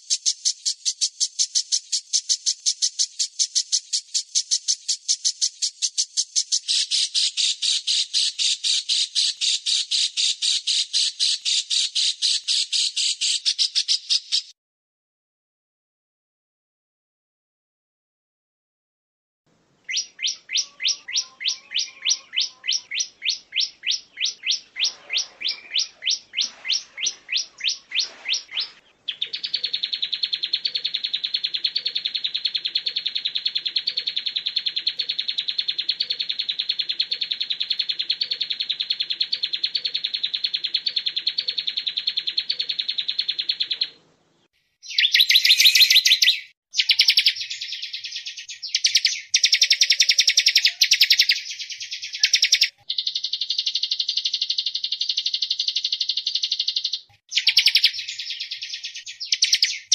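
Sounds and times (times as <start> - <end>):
high buzzing bird trill: 0.0 - 14.5, 19.9 - 43.8, 44.8 - 59.9
songbird singing: 0.0 - 14.6, 19.6 - 59.9.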